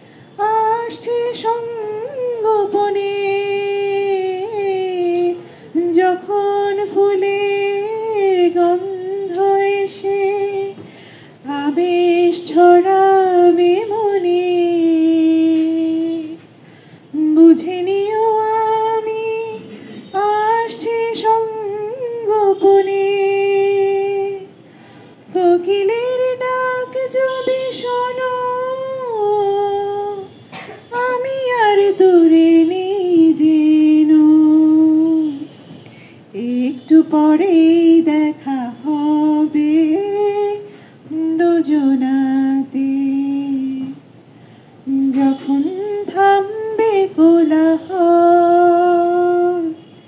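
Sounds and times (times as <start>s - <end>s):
woman singing into microphone: 0.0s - 44.2s, 44.8s - 49.8s.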